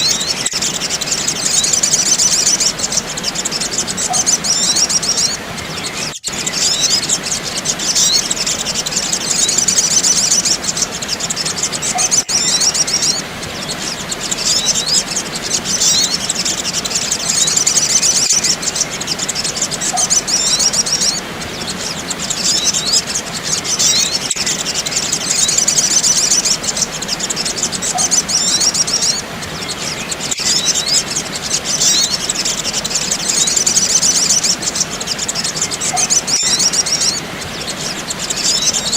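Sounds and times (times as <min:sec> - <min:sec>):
bird chirps and twitters: 0:00.0 - 0:38.9.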